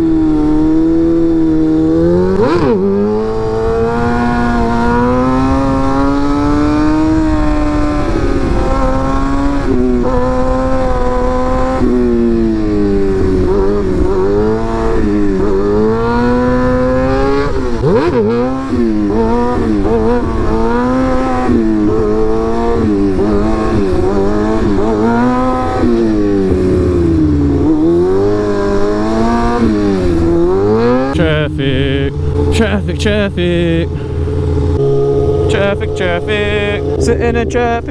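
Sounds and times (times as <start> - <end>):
low wind rush: 0.0 - 37.9
motorcycle engine riding: 0.0 - 37.9.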